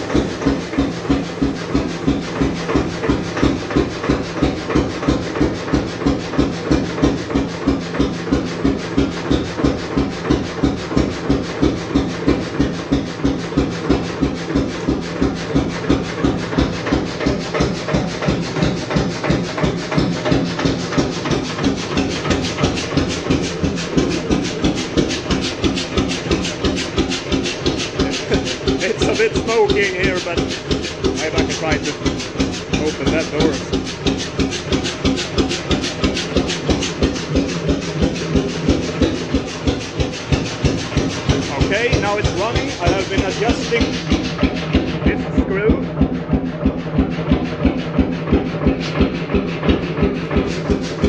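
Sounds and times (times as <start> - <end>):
single-cylinder engine running: 0.0 - 51.0.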